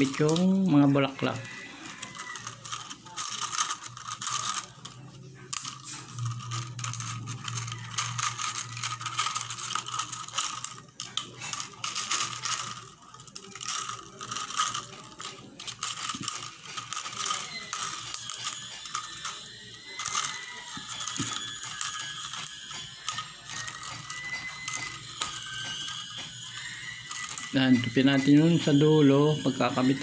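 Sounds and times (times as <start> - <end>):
plastic bottle crackling: 0.0 - 19.4, 20.0 - 28.3.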